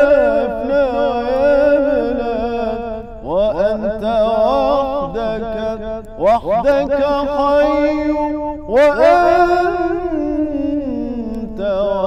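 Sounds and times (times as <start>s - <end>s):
man singing religious song: 0.0s - 12.0s.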